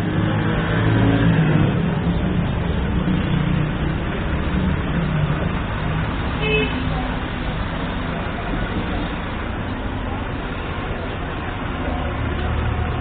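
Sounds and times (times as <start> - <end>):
steady traffic noise: 0.0 - 13.0
vehicle engine running close by: 0.0 - 13.0.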